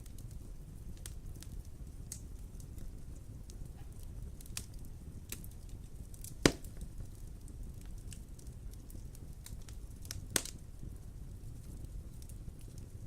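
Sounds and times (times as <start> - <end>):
fire popping loudly: 0.0 - 13.0
wood fire crackling: 0.0 - 13.0.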